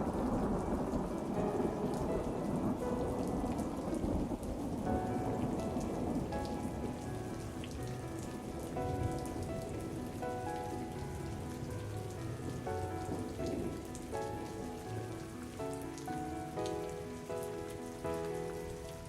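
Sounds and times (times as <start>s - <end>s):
soft music with sustained notes: 0.0s - 19.0s
steady rain falling: 0.0s - 19.0s
thunder rumbling: 0.0s - 19.0s.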